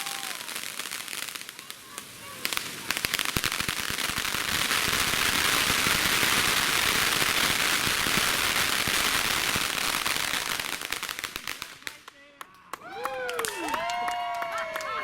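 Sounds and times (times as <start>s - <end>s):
fireworks crackling: 0.0s - 12.3s.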